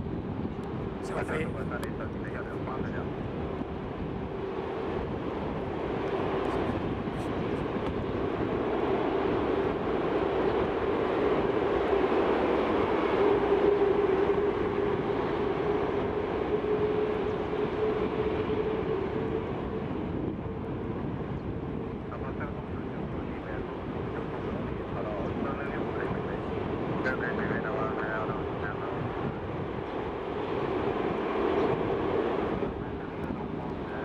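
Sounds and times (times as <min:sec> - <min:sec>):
jet airliner engines taxiing: 0:00.0 - 0:34.0.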